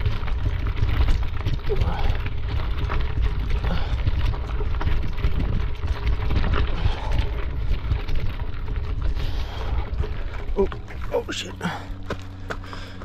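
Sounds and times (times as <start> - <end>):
wind buffeting microphone: 0.0 - 11.2
bicycle tyres crunching on gravel: 0.0 - 13.0.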